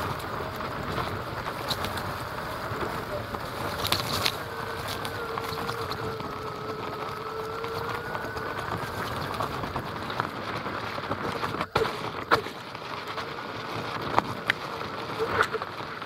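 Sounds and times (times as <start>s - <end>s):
electric motor whine: 0.0s - 16.0s
tyre rolling over gravel: 0.0s - 16.0s.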